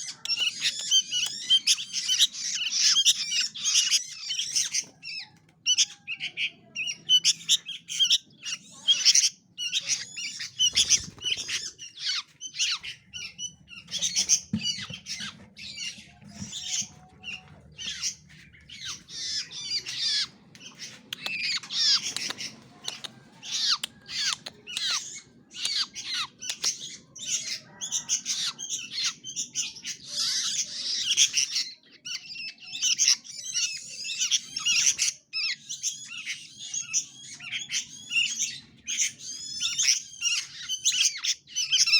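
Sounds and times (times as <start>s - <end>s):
songbirds squawking and chattering: 0.0s - 41.9s.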